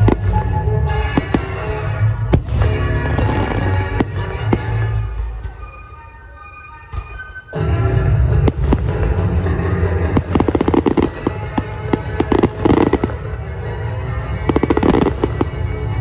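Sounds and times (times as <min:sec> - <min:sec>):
fireworks crackling: 0:00.0 - 0:05.6, 0:07.5 - 0:16.0
loud music: 0:00.0 - 0:16.0.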